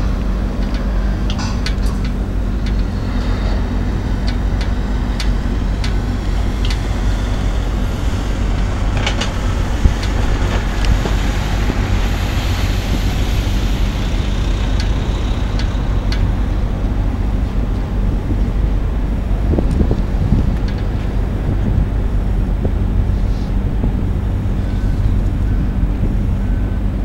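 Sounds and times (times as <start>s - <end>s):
constant hum: 0.0s - 27.0s
low mechanical rumble: 0.0s - 27.0s
wind on microphone: 0.0s - 27.0s.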